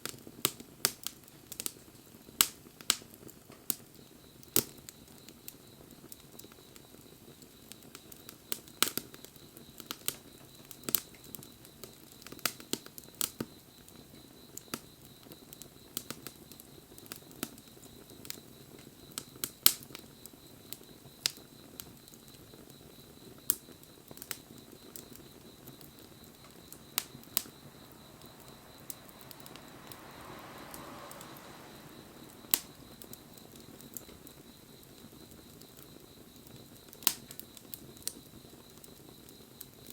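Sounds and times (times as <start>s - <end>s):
faint low hiss: 0.0s - 39.9s
wood fire crackling: 0.0s - 39.9s.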